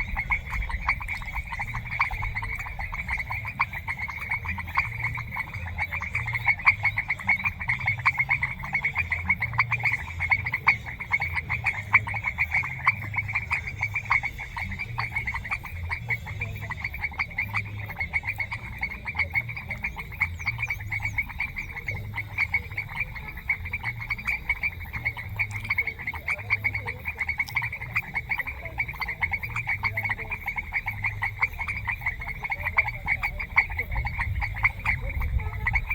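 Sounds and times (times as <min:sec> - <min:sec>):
frogs croaking in chorus: 0:00.0 - 0:35.9.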